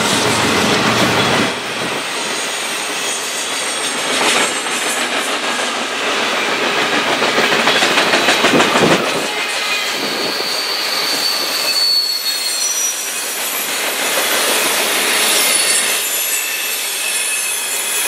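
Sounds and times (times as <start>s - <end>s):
train wheels clicking over rail joints: 0.0s - 17.9s.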